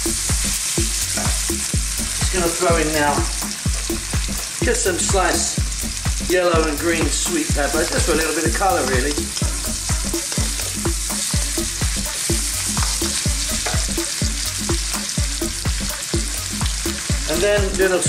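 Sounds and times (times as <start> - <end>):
stir-fry sizzling in a wok: 0.0 - 18.0.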